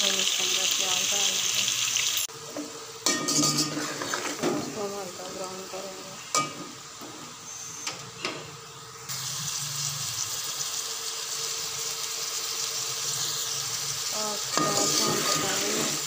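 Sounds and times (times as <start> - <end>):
food sizzling in hot oil: 0.0 - 7.8, 8.4 - 16.0.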